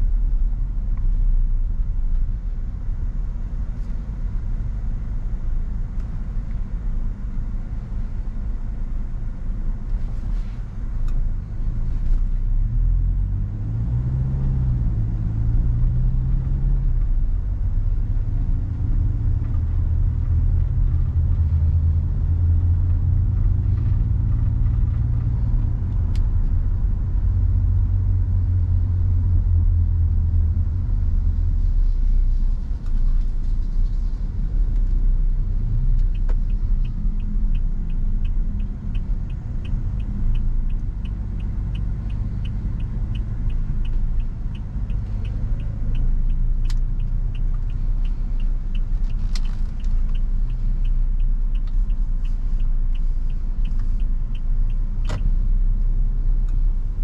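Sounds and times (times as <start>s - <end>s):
car engine and road rumble: 0.0s - 57.0s
turn signal ticking: 10.7s - 57.0s.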